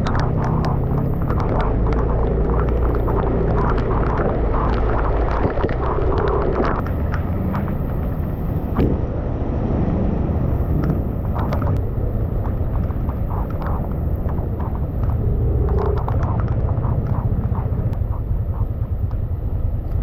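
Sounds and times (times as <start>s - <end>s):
heavy rain: 0.0s - 8.9s, 9.6s - 18.2s
scattered sharp taps: 0.0s - 8.9s, 10.6s - 20.0s
low vehicle rumble: 0.0s - 20.0s.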